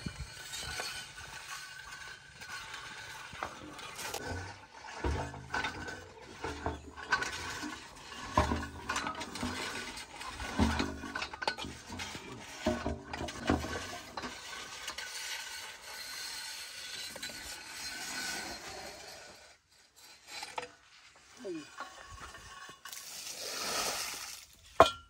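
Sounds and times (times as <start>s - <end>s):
drill pipe scraping and grinding: 0.0s - 25.0s.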